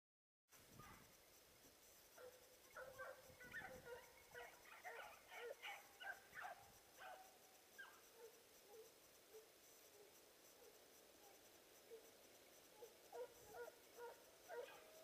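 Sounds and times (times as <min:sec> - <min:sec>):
dogs barking faintly: 0:02.1 - 0:15.0.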